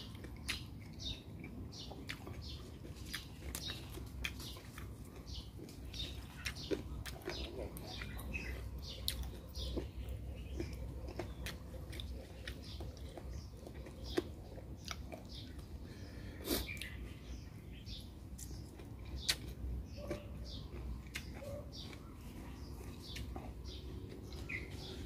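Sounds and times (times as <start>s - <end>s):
chewing and lip-smacking: 0.0s - 25.0s.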